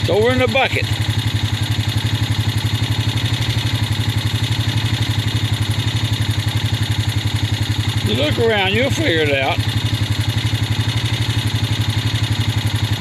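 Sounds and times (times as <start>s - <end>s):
farm vehicle engine idling: 0.0s - 13.0s.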